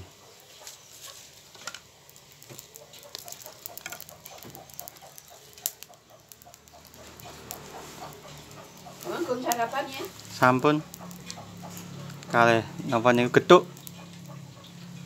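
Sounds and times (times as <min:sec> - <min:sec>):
burning sticks ticking and popping: 0:00.0 - 0:15.0
wood fire crackling: 0:00.0 - 0:15.0.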